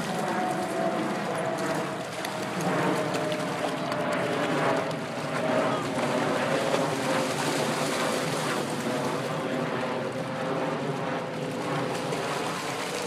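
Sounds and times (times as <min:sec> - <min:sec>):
dogs splashing through puddle: 0:00.0 - 0:09.3, 0:10.9 - 0:13.0.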